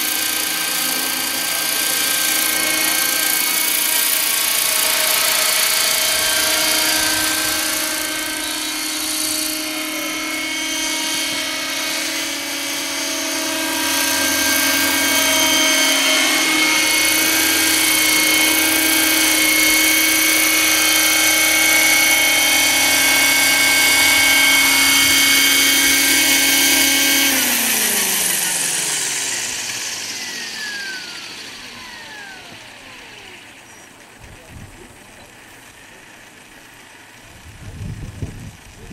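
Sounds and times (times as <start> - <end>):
model helicopter motor whine: 0.0 - 38.9.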